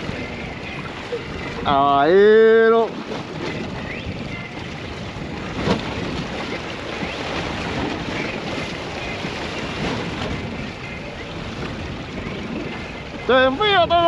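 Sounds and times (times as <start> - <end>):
sea water washing: 0.0 - 14.0
wind on microphone: 0.0 - 14.0.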